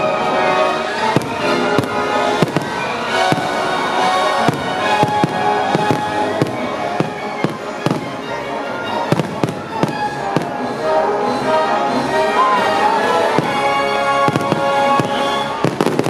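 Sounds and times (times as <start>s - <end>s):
fireworks bangs: 0.0s - 10.8s, 12.4s - 16.0s
loud music: 0.0s - 16.0s.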